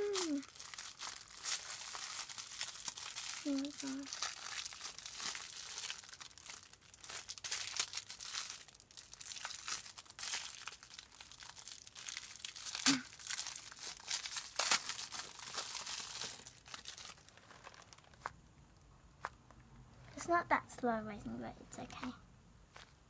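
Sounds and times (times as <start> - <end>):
plastic wrapping crinkling and tearing: 0.0 - 18.8.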